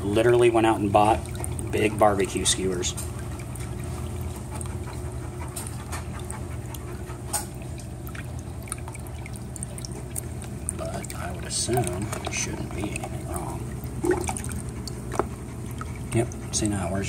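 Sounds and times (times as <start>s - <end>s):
low pump hum: 0.0s - 17.0s
water trickling into plastic tub: 0.0s - 17.0s.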